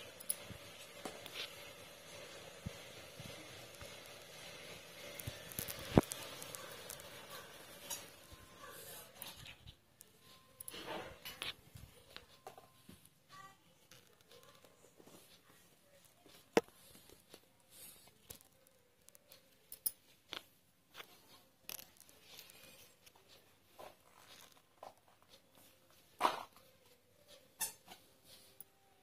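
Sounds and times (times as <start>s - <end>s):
thread rustling through cloth: 0.0s - 13.1s, 13.8s - 26.6s.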